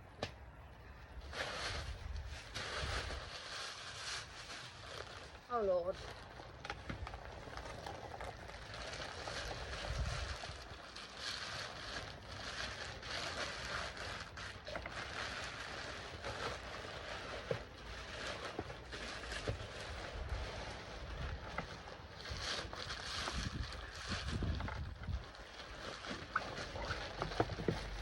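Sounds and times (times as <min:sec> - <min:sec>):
packaging rustling and crinkling: 0:01.1 - 0:28.0.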